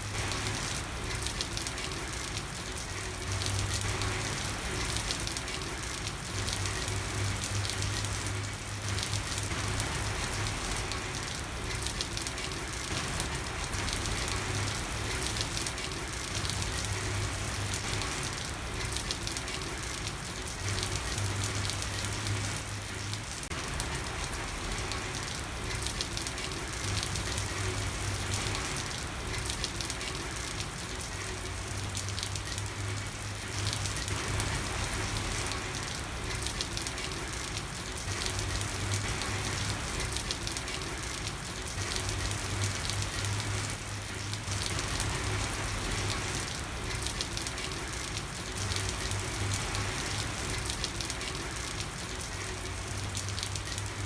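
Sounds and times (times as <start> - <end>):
rain falling on street: 0.0 - 54.0.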